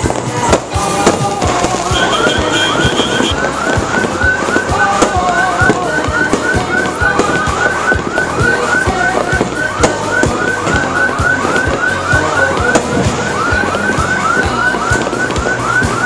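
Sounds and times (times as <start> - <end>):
fireworks banging: 0.0 - 16.0
electronic alarm chirping: 1.8 - 16.0.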